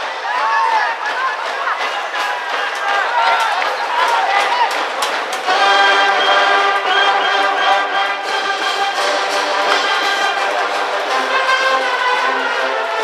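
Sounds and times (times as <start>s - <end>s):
brass band playing: 0.4s - 13.0s
short low brass notes: 0.7s - 13.0s.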